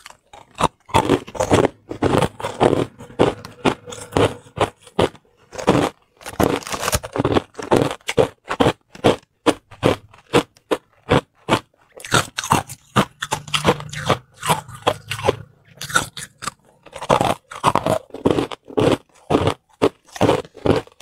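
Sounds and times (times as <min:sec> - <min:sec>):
ice being crunched and chewed: 0:00.0 - 0:21.0.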